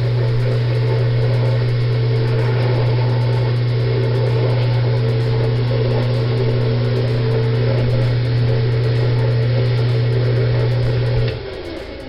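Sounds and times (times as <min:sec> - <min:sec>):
loud low hum: 0:00.0 - 0:12.0.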